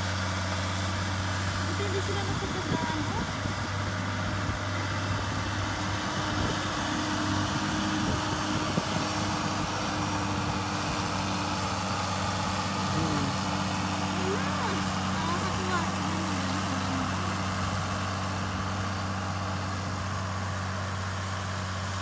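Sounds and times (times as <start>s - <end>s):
tiller churning: 0.0s - 22.0s
tractor engine running: 0.0s - 22.0s.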